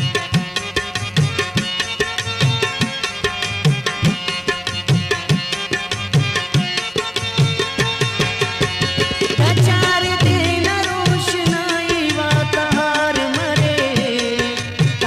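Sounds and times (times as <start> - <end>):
hand drum pattern: 0.0 - 15.0.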